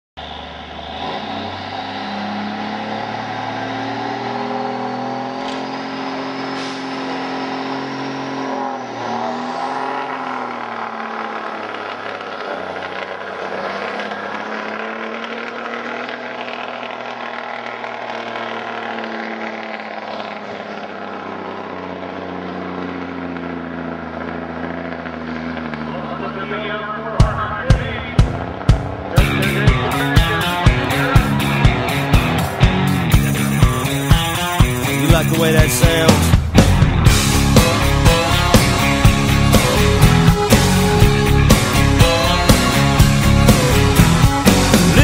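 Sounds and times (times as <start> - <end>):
truck engine under heavy load: 0.2 - 45.0.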